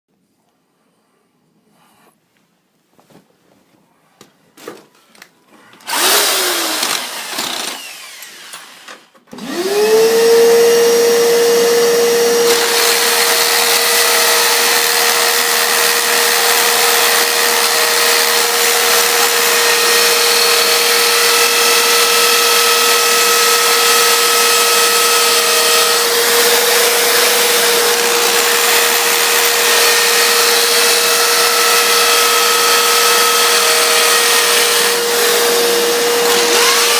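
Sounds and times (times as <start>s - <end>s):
electric motor running: 5.9s - 36.9s.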